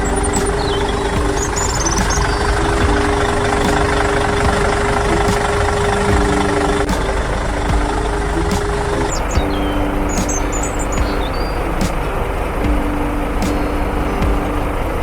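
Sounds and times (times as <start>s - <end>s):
bird chirps: 0.0s - 14.9s
diesel engine running: 0.0s - 15.0s.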